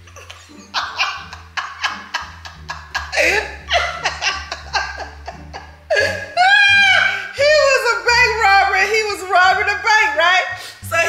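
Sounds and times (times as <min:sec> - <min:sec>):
background music with bass: 0:00.0 - 0:11.0
women laughing: 0:00.0 - 0:11.0.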